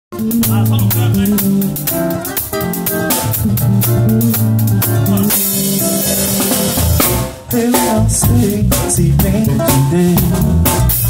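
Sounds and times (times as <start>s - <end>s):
acoustic-electric guitar strumming: 0.1s - 11.0s
drum kit steady beat: 0.1s - 11.0s
electric bass line: 0.1s - 11.0s.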